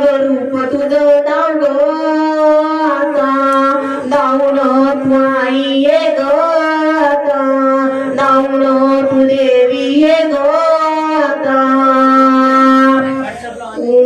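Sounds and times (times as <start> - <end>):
devotional melody over a drone: 0.0 - 13.4.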